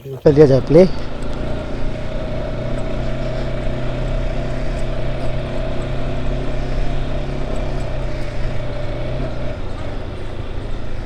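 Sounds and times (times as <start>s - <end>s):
motorcycle engine running steadily: 0.2s - 11.0s.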